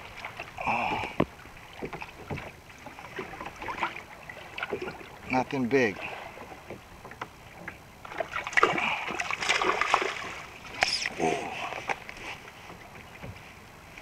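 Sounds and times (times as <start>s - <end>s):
water splashing at a kayak: 0.0s - 14.0s.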